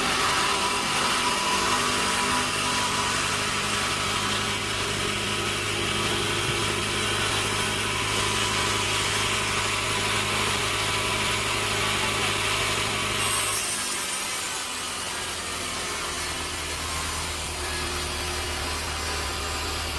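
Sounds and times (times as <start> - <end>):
sawmill machinery humming: 0.0 - 19.9.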